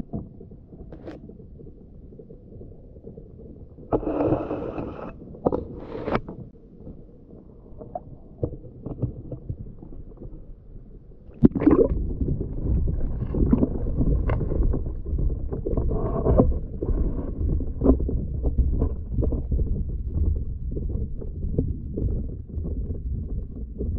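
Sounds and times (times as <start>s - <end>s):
muffled underwater rumble and gurgling: 0.0s - 23.9s
water lapping against kayak hull: 0.1s - 23.9s.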